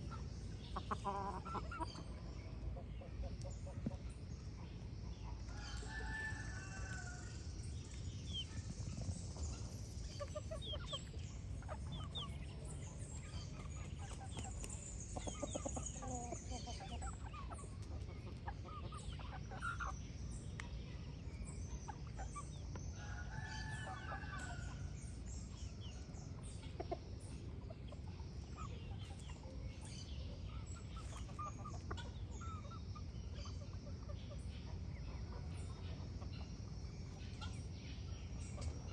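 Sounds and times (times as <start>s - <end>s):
chickens clucking: 0.0s - 38.9s
small birds chirping: 0.0s - 38.9s.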